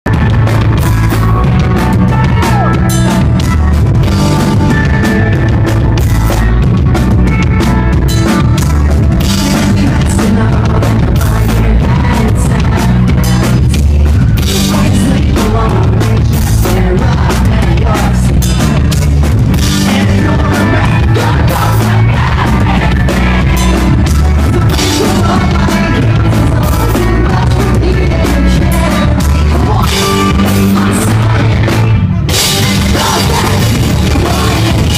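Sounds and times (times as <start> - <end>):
pop-punk band playing live: 0.0 - 34.9.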